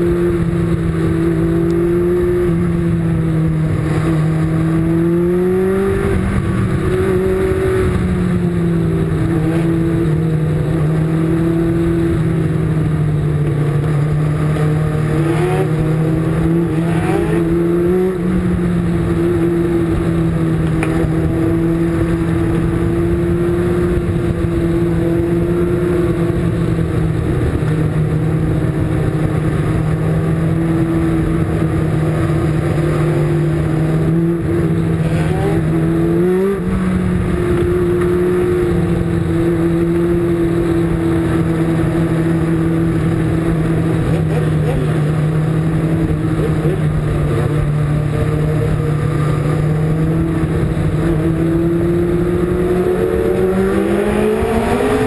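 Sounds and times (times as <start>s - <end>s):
race car engine at high revs: 0.0s - 55.0s.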